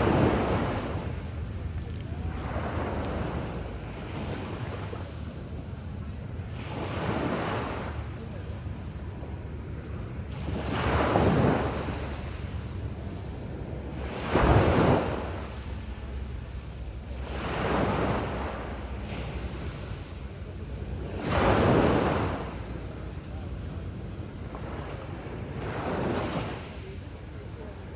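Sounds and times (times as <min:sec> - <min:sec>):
sea waves breaking on beach: 0:00.0 - 0:27.9
wind rumble on microphone: 0:00.0 - 0:27.9.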